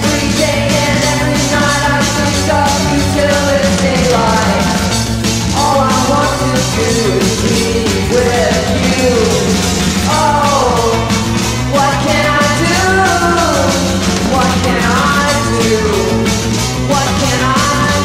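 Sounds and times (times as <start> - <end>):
drum hits: 0.0 - 18.0
rock band playing: 0.0 - 18.0
sliding lead guitar line: 0.0 - 18.0
steady bass: 0.0 - 18.0.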